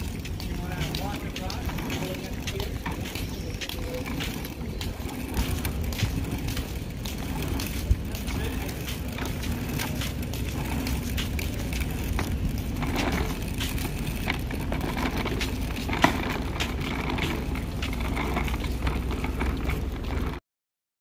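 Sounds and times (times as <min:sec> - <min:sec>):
plastic wheels rattling on concrete: 0:00.0 - 0:20.4.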